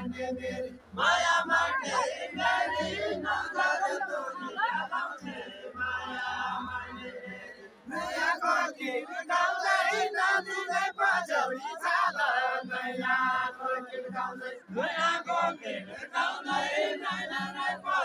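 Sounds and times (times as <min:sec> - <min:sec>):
men singing in chorus: 0:00.0 - 0:18.0.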